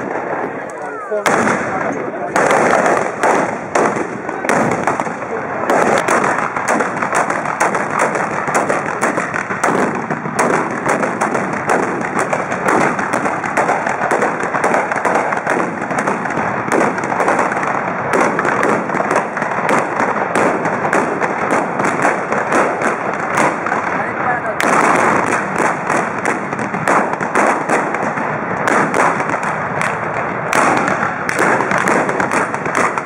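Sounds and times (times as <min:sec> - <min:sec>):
blunderbuss gunshots: 0:00.0 - 0:33.0.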